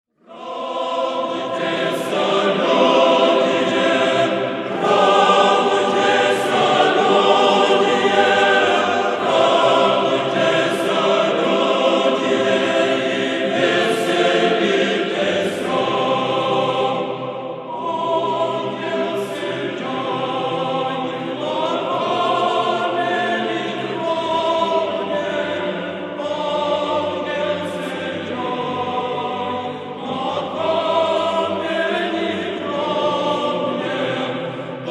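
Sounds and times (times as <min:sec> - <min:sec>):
choir chanting: 0:00.2 - 0:34.9.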